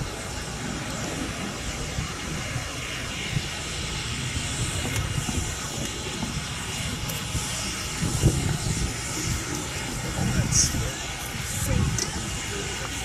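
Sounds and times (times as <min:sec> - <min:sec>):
steam locomotive exhaust: 0:00.0 - 0:13.0.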